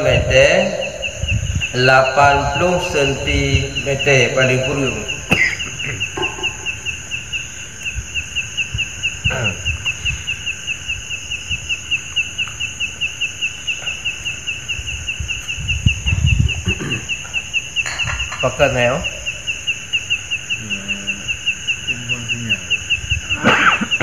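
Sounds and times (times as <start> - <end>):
animal chirping: 0.0 - 24.0
continuous high hiss: 0.0 - 24.0.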